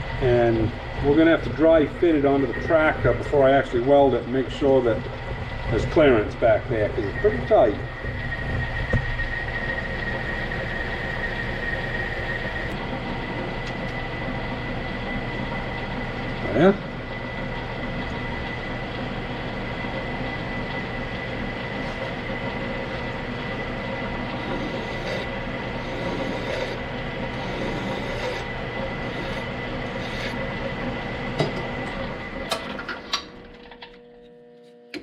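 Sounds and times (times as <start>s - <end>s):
metal lathe running: 0.0s - 34.0s.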